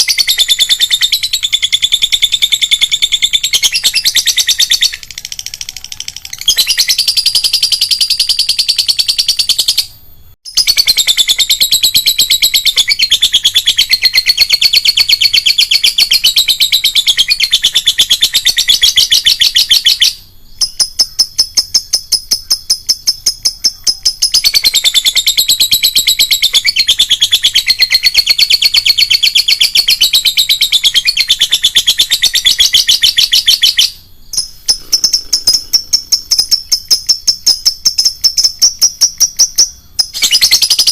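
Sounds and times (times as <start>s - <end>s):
lovebird shrill chattering trill: 0.0s - 9.9s, 10.5s - 40.9s.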